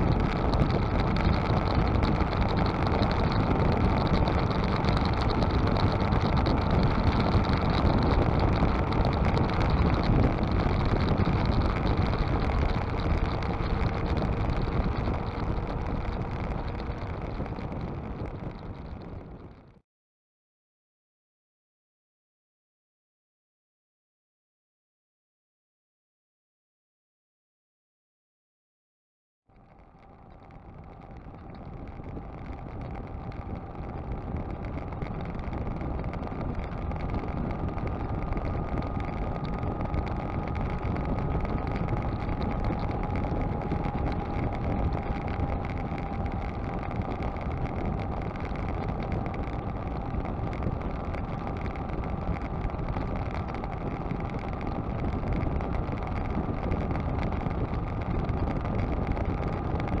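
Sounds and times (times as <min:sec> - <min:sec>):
road noise: 0:00.0 - 0:19.5, 0:29.7 - 0:59.9
motorcycle engine with high whine: 0:00.0 - 0:19.8, 0:29.5 - 1:00.0
wind rush: 0:00.0 - 0:19.8, 0:30.0 - 1:00.0.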